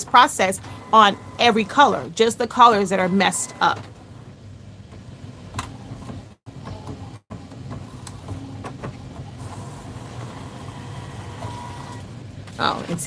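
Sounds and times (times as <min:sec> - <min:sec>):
printer mechanical hum: 0:00.0 - 0:13.0.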